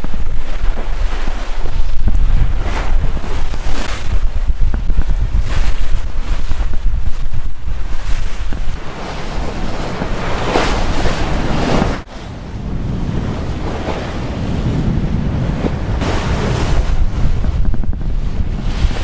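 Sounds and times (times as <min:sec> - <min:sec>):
water rushing along boat hull: 0:00.0 - 0:19.0
wind buffeting microphone: 0:00.0 - 0:19.0.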